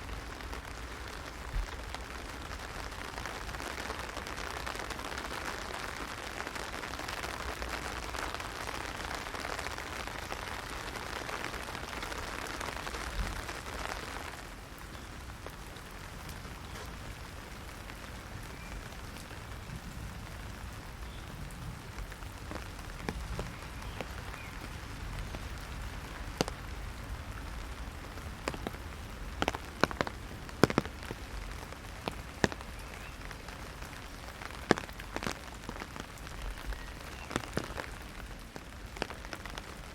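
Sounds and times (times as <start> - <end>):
heavy rain on umbrella: 0.0 - 39.9.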